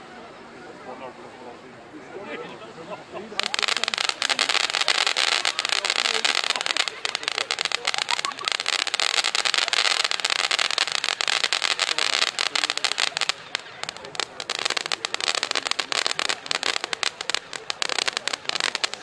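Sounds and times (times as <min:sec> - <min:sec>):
fireworks crackling and popping: 0:03.2 - 0:19.0.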